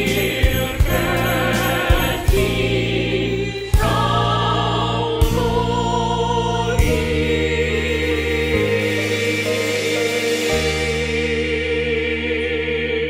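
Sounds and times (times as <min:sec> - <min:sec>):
choir singing held chords: 0:00.0 - 0:13.0
piano accompaniment: 0:00.0 - 0:13.0.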